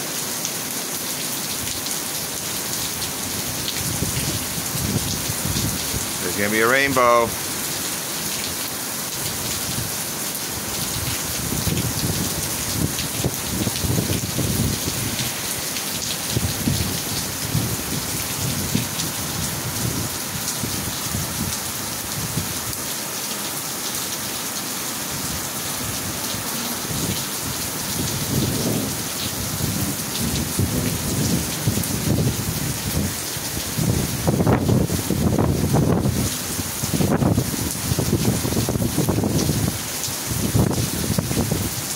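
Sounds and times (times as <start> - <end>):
heavy rain on pavement: 0.0 - 41.9.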